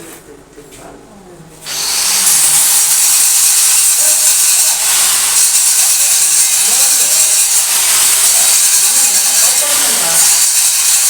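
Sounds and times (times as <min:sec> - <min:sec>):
welding arc hissing: 0:01.6 - 0:11.0.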